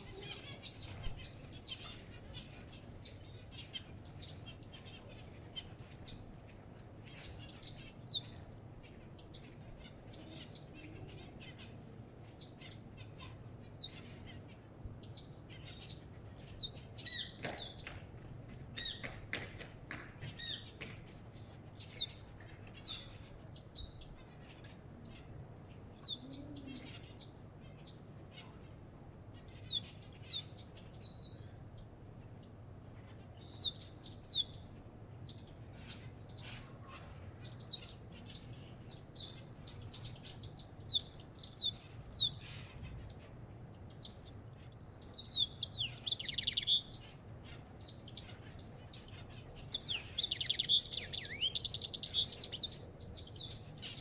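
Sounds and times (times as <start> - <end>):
faint low hum: 0.0 - 54.0
finch singing: 0.0 - 54.0.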